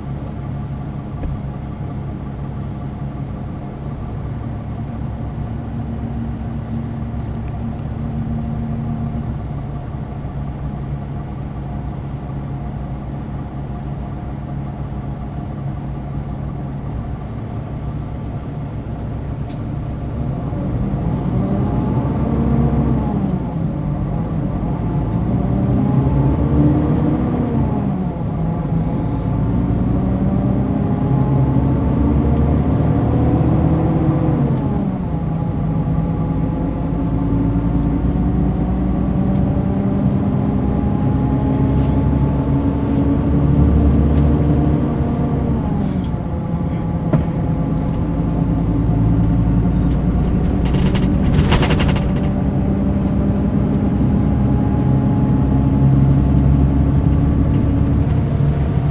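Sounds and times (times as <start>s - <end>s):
coach diesel engine: 0.0s - 58.9s.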